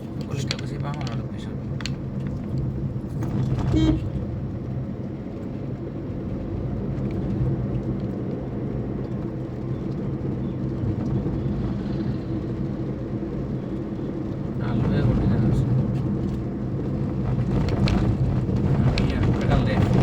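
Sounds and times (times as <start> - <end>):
engine and tyre hum: 0.0 - 20.0.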